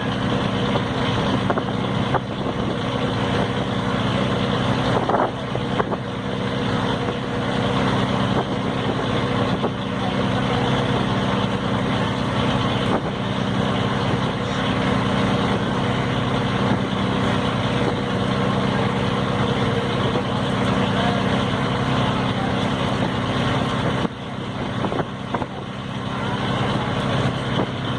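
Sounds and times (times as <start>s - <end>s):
boat engine running: 0.0s - 27.9s.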